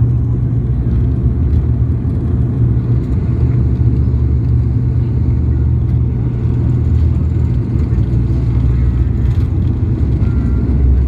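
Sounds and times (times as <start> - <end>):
jet airliner cabin rumble: 0.0 - 11.0.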